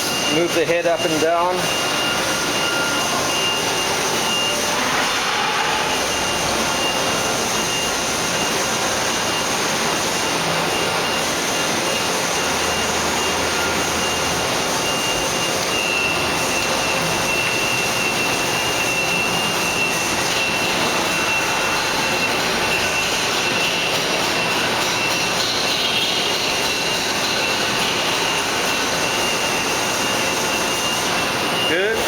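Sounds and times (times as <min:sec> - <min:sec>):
rushing machine-shop noise: 0:00.0 - 0:32.0
thin high whine: 0:00.0 - 0:32.0.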